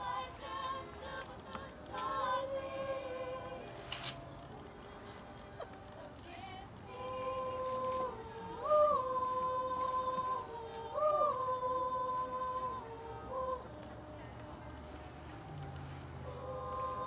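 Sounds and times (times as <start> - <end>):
female choir singing: 0.0 - 17.0.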